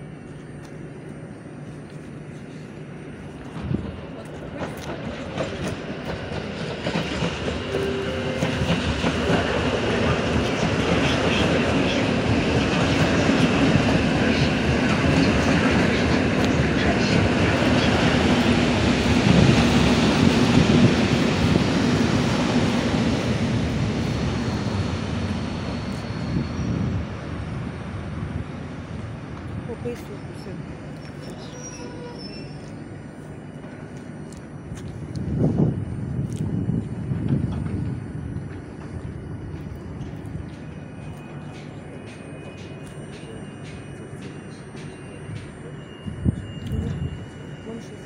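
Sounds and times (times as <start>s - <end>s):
electric train running past: 0.0s - 48.0s
faint high whine: 7.6s - 12.3s, 12.9s - 48.0s.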